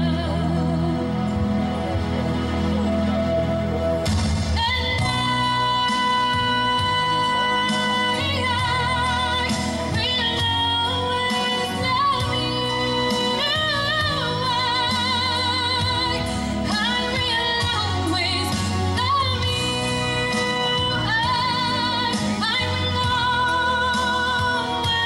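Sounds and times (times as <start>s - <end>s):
woman singing slow song: 0.0s - 1.6s, 4.6s - 25.0s
accompanying music: 0.0s - 25.0s.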